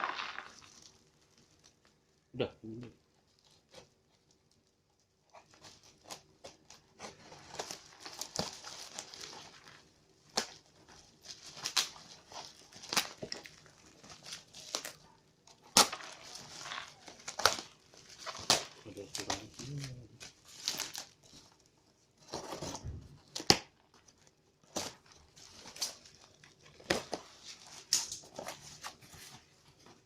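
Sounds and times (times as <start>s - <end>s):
plastic packaging crinkling: 0.0s - 2.1s, 3.2s - 30.0s.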